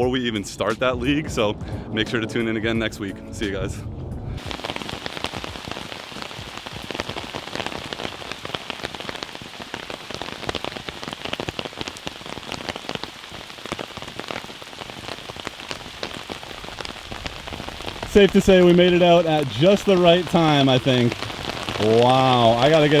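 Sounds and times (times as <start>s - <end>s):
rain drops ticking: 4.4s - 23.0s.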